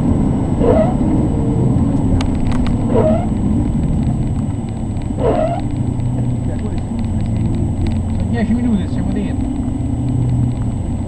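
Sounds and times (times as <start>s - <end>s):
car engine rumble in cabin: 0.0s - 11.0s.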